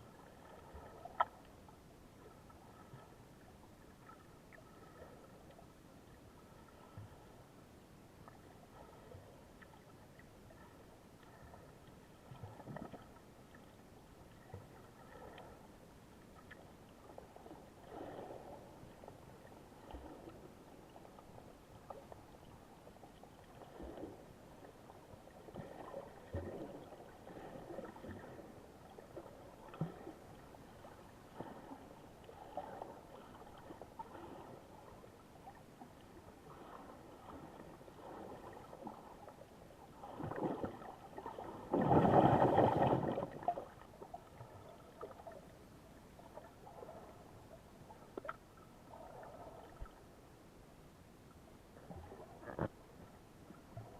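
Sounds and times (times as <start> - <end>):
sea water sloshing: 0.0 - 50.4, 51.7 - 53.9.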